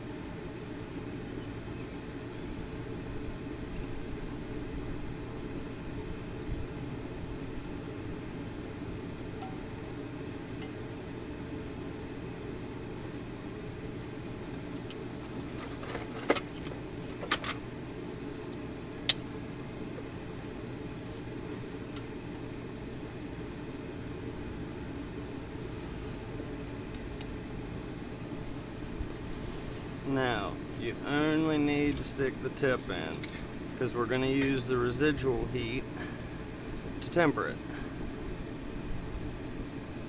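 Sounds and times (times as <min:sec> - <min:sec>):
forge humming: 0:00.0 - 0:40.0.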